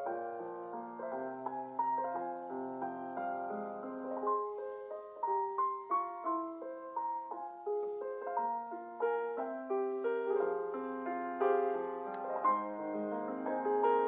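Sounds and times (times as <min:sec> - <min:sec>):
soft solo piano: 0:00.0 - 0:14.0.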